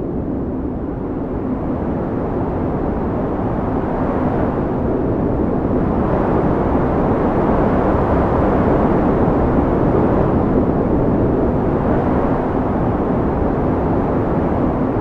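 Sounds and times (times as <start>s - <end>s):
strong wind roaring: 0.0s - 15.0s.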